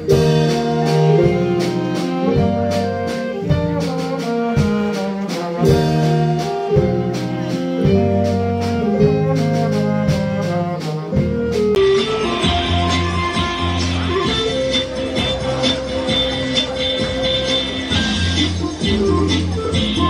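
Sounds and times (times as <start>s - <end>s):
drum kit: 0.0s - 20.0s
electric keyboard: 0.0s - 20.0s
guitar: 0.0s - 20.0s
saxophones: 0.0s - 20.0s
trombone: 0.0s - 20.0s.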